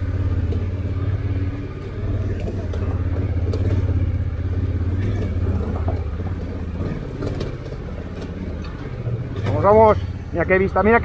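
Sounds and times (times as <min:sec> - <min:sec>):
motorcycle engine pulling steadily: 0:00.0 - 0:11.0.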